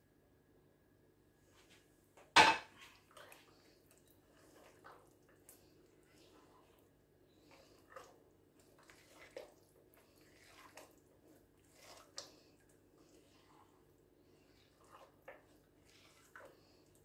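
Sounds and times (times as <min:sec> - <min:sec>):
hand squishing soft mixture: 0:01.4 - 0:17.0.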